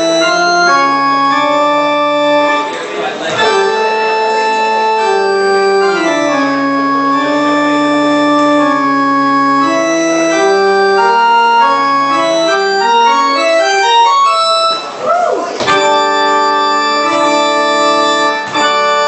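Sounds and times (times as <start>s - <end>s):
electronic organ-like floor piano: 0.0s - 15.0s, 15.6s - 19.0s.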